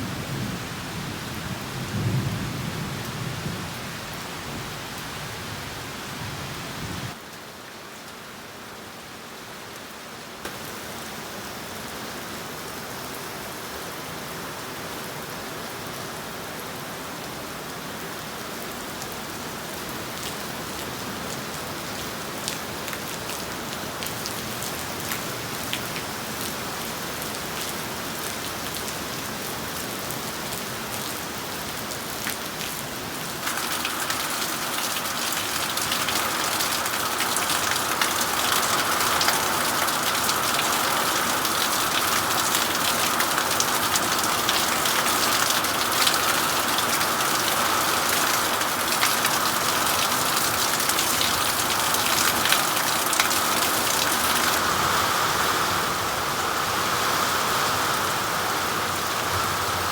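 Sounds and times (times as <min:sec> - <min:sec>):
heavy rain pouring: 0:00.0 - 0:07.2, 0:17.6 - 0:59.9.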